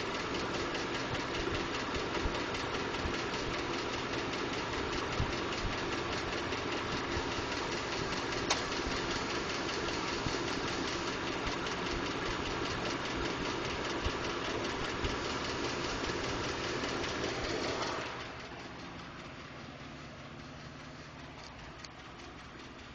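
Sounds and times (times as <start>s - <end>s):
engine running with rapid ticking: 0.0s - 22.9s.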